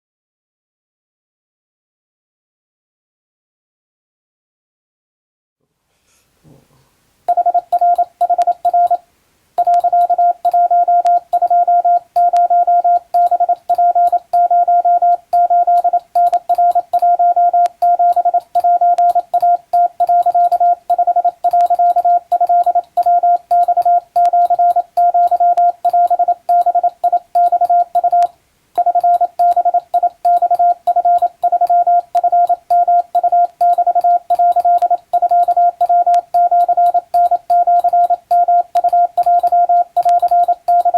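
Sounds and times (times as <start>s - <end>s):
faint keying clicks: 7.3s - 9.0s, 9.6s - 40.9s
morse code beeps: 7.3s - 9.0s, 9.6s - 40.9s.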